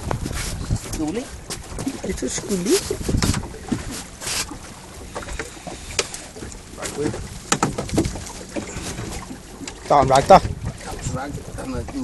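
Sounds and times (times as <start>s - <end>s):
knocks and clatter on boat deck: 0.0s - 12.0s
water: 0.0s - 12.0s
wind: 0.0s - 12.0s.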